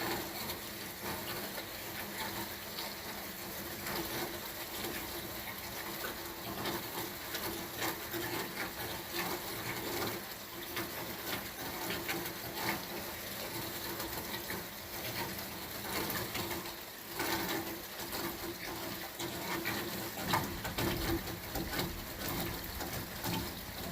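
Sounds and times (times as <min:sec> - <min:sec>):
rain hiss with splashing drops: 0:00.0 - 0:23.9.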